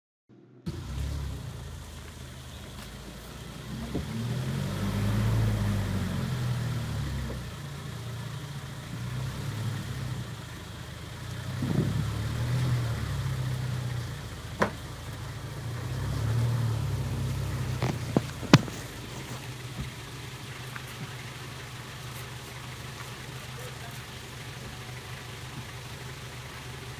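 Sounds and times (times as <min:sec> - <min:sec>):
vehicle engine running: 0:00.3 - 0:26.9.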